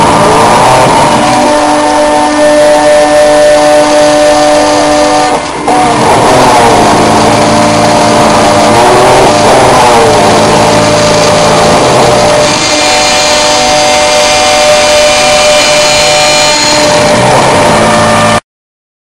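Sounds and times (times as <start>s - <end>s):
router spindle milling metal: 0.0s - 18.4s.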